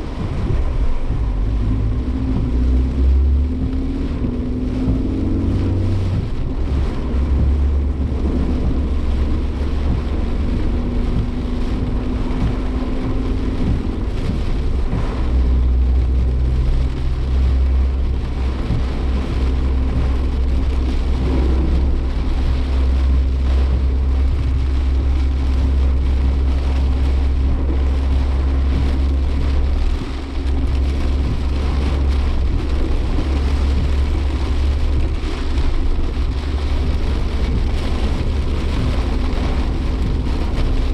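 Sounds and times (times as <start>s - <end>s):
engine and road drone: 0.0s - 40.9s
rain on car: 0.0s - 40.9s.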